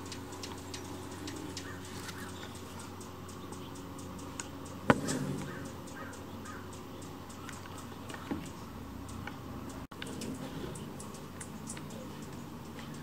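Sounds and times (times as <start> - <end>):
bird ticking notes: 0.0 - 13.0.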